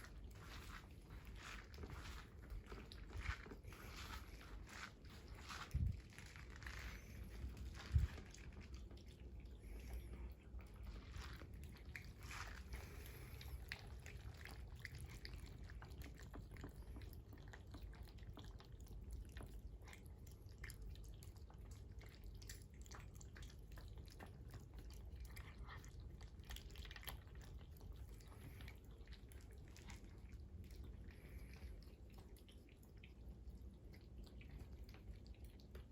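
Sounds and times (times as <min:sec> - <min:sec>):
cat chewing food: 0:00.0 - 0:35.9.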